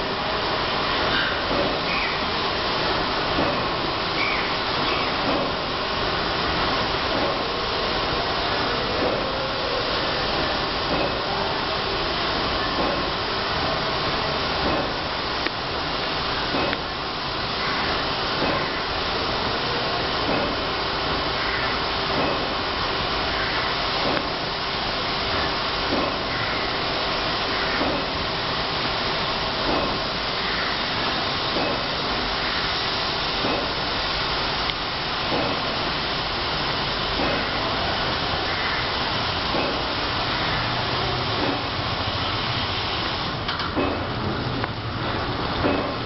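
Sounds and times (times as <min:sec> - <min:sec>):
water jets spraying a car: 0:00.0 - 0:46.0.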